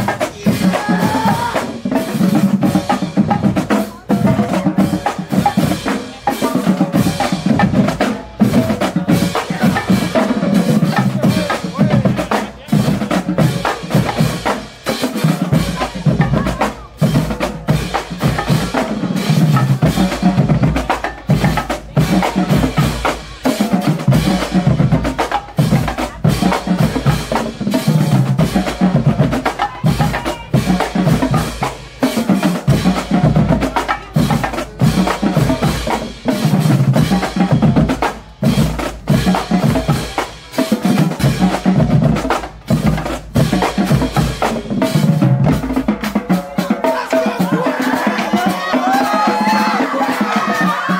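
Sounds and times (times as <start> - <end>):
bass drums: 0.0 - 50.9
snare drums: 0.0 - 50.9
tenor drums: 0.0 - 50.9.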